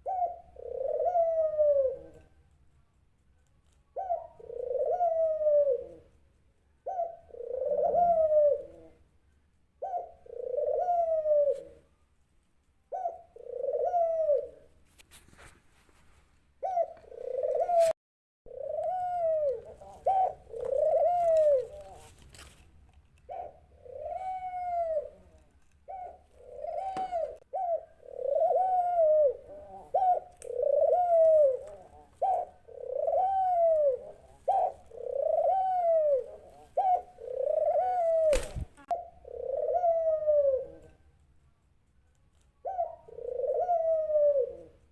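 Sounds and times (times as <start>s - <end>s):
dove cooing: 0.0s - 2.4s, 3.9s - 6.2s, 6.8s - 9.1s, 9.8s - 11.9s, 12.9s - 14.8s, 16.6s - 22.2s, 23.2s - 41.0s, 42.6s - 44.9s.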